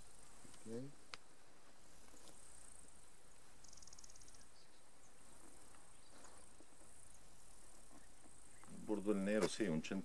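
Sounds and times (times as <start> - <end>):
rapid insect chirps: 0.0 - 10.0
insects trilling: 1.9 - 10.0.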